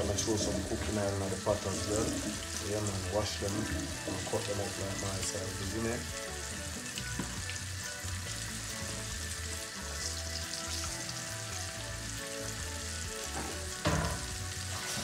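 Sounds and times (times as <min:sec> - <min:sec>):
fish frying in hot oil: 0:00.0 - 0:15.0
pot boiling: 0:00.0 - 0:15.0.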